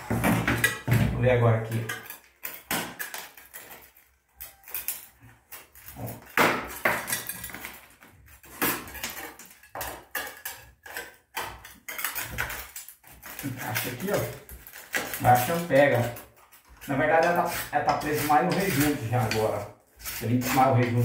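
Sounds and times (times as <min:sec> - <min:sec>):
metal spatula scraping grout: 0:01.6 - 0:21.0.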